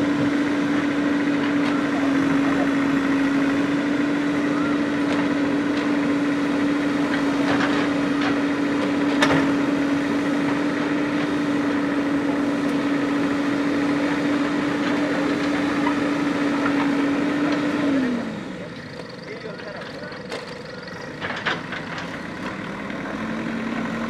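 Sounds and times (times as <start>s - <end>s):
diesel engine running at high revs: 0.0s - 24.0s.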